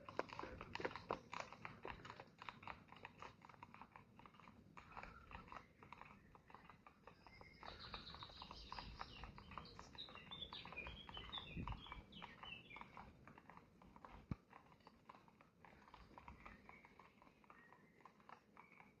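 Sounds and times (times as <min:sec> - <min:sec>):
quick ticks: 0:00.0 - 0:19.0
small animals chirping and squeaking: 0:00.0 - 0:19.0.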